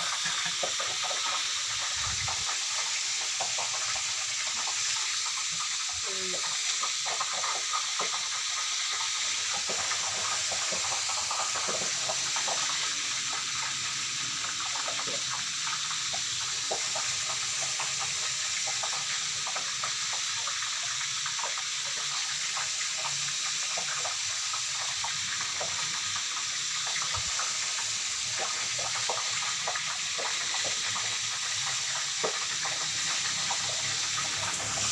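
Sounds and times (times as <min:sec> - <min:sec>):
deep-frying sizzle and pops: 0:00.0 - 0:34.9.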